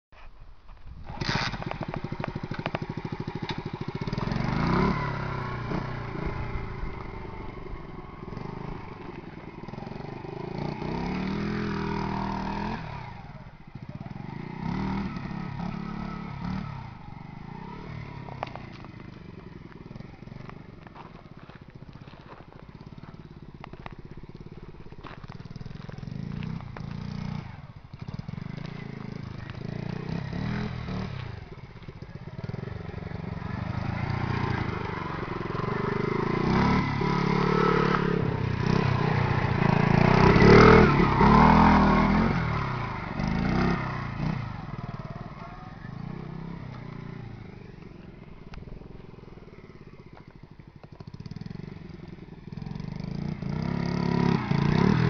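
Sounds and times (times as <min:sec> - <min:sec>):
minibike engine revving: 0:01.0 - 0:55.0.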